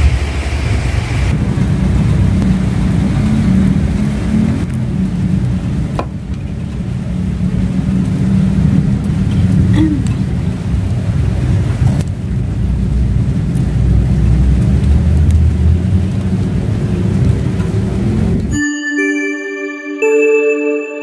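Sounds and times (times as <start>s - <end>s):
rain hissing: 0.0s - 18.6s.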